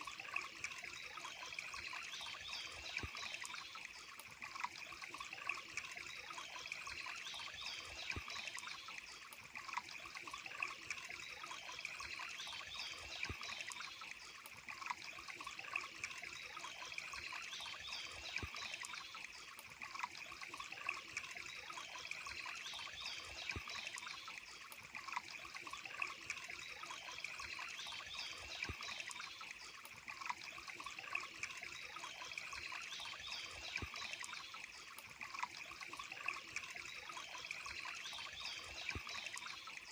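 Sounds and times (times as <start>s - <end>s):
water drips: 0.0s - 39.9s
water trickling over rocks: 0.0s - 39.9s
small birds chirping: 0.3s - 39.9s.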